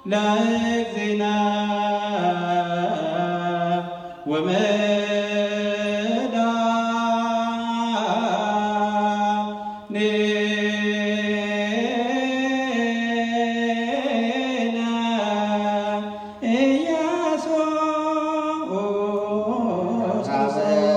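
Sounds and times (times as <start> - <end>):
man chanting: 0.0 - 20.9.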